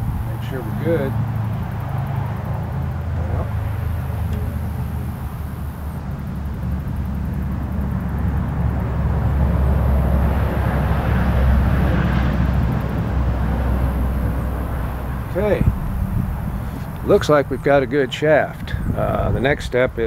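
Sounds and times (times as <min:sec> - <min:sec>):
distant engine rumble: 0:00.0 - 0:20.0.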